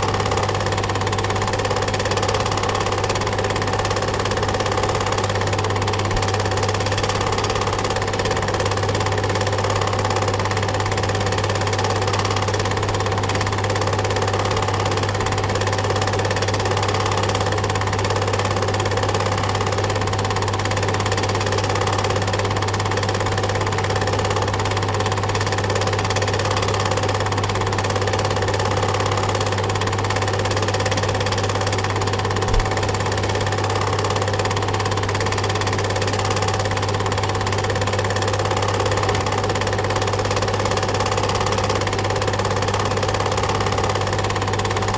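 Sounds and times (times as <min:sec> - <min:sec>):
film projector whirring: 0:00.0 - 0:44.9.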